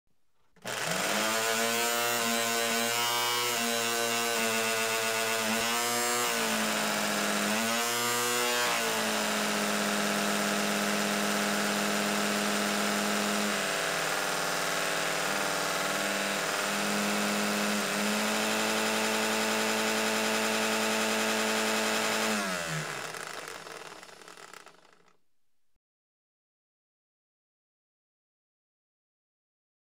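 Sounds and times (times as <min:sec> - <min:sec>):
lawn mower engine running: 0:00.6 - 0:25.2.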